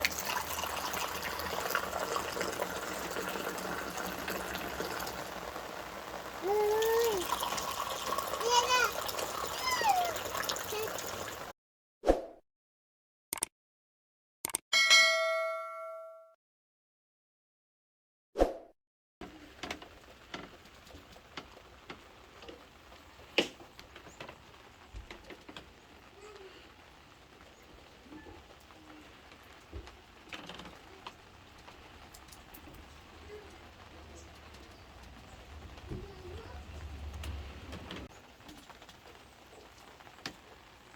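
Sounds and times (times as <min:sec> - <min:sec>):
small splashes and crackles: 0:00.0 - 0:11.5, 0:19.2 - 0:40.9
tap water running: 0:00.0 - 0:11.5, 0:19.2 - 0:40.9.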